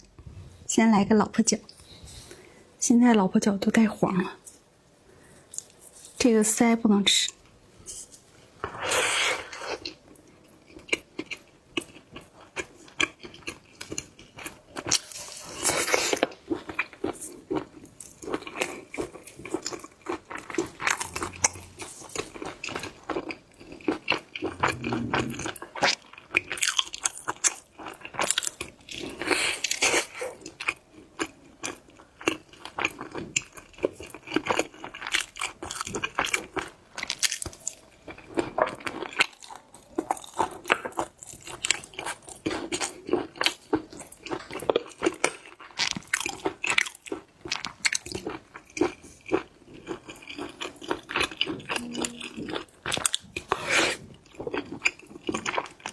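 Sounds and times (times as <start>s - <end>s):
chewing crunches: 10.7s - 55.9s.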